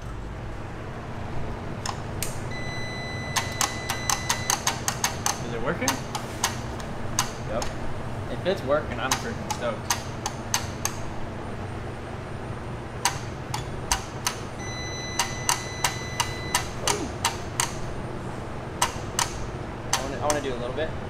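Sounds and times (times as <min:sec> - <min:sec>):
steady high whine: 0:00.0 - 0:04.8, 0:06.6 - 0:21.0.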